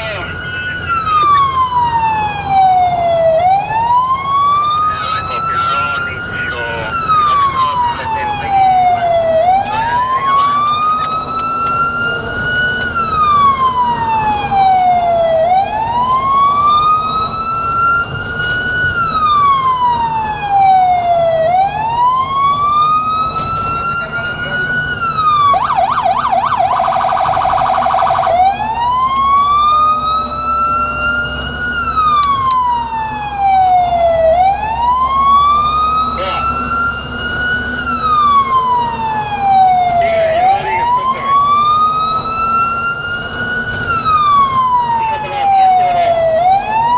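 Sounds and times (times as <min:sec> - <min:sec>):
electronic siren wailing: 0:00.0 - 0:46.9
low vehicle rumble: 0:00.0 - 0:46.9
siren yelp and warble: 0:00.0 - 0:46.9.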